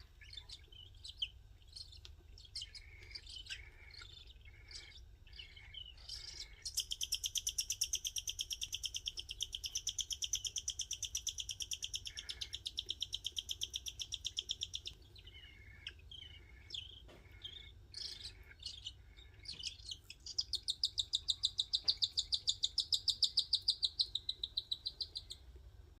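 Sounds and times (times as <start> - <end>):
chicks rasping begging calls: 0.0 - 25.5.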